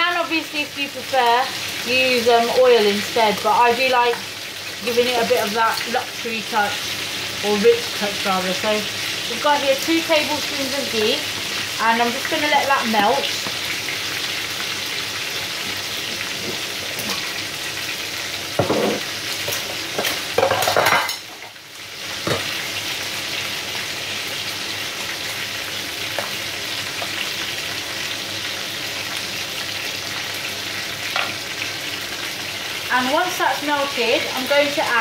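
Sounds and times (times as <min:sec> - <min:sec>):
meat sizzling in hot oil: 0:00.0 - 0:35.0.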